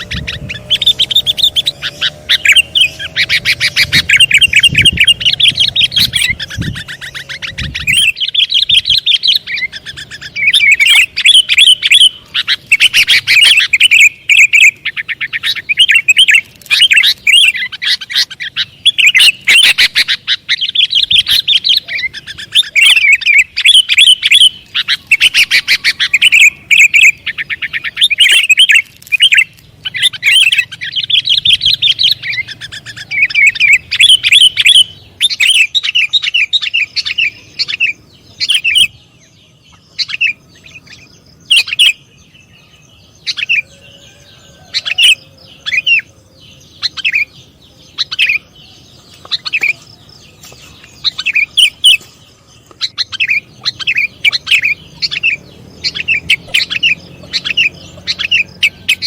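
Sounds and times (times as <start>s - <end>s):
bulbul singing high chirps: 0.0s - 59.0s.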